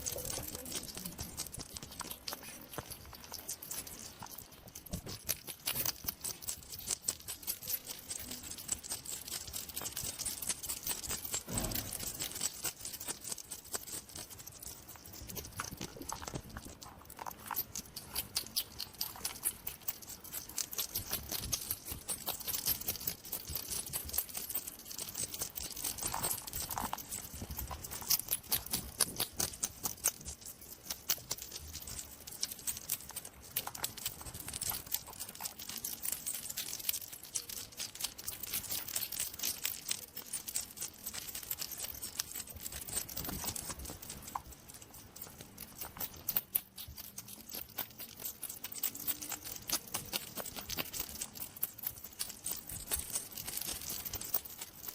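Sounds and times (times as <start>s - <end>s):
hedgehog chewing crunchy clicks: 0.0s - 54.9s.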